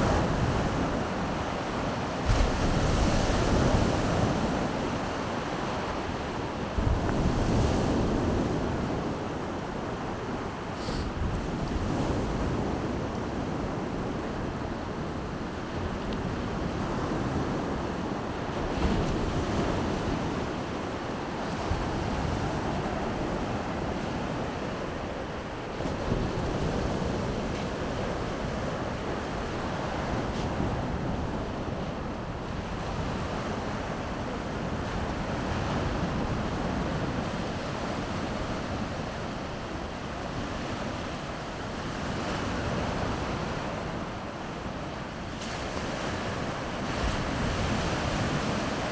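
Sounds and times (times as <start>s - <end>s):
wind rumbling on microphone: 0.0s - 44.0s
surf washing onto shore: 0.0s - 44.4s.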